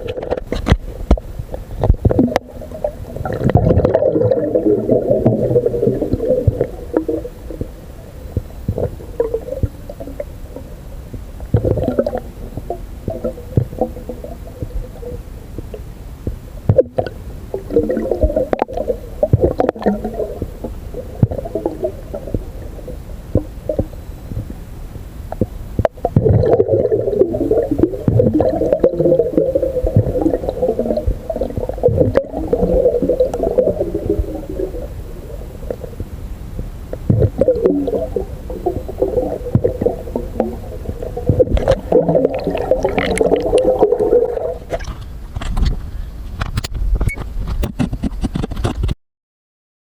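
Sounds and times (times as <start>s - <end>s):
underwater gurgling and bubbling: 0.0s - 46.5s.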